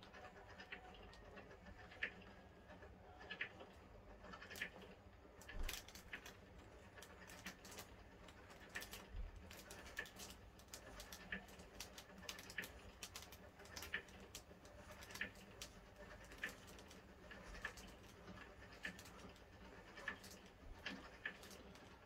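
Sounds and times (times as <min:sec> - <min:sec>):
faint mechanism clicks: 0:00.0 - 0:22.0.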